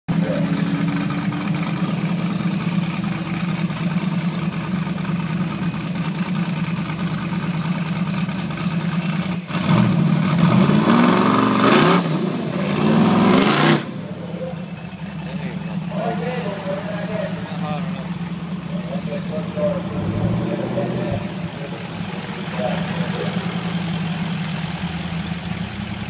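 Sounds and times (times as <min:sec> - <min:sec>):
car engine revving: 0:00.1 - 0:26.0
car engines idling: 0:00.1 - 0:26.0.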